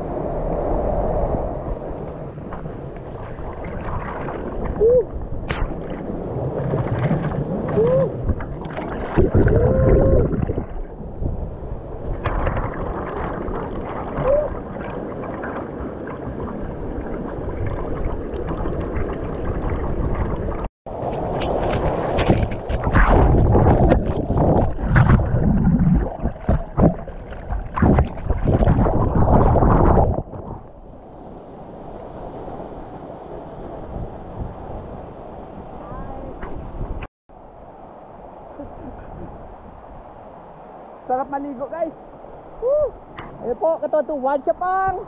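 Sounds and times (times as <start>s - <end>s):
stream gurgling and splashing: 0.0s - 45.0s.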